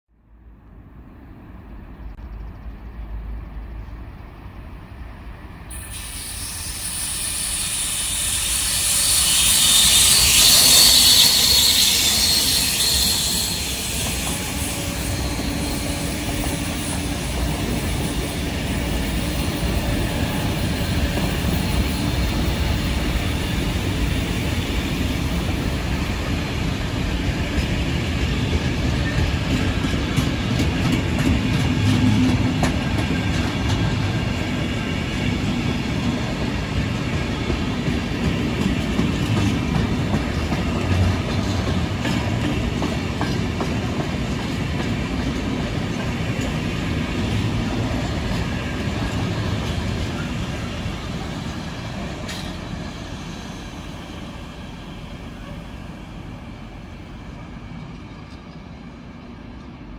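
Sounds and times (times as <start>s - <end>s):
diesel locomotive passing: 0.2s - 59.9s
train wheels rumbling on rails: 0.6s - 59.9s.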